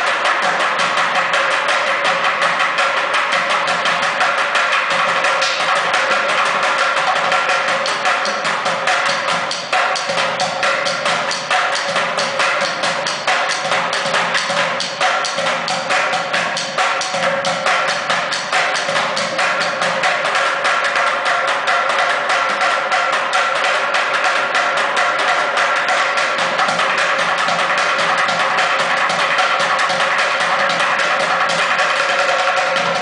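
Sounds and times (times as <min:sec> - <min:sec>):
drumming on plastic buckets: 0:00.0 - 0:33.0.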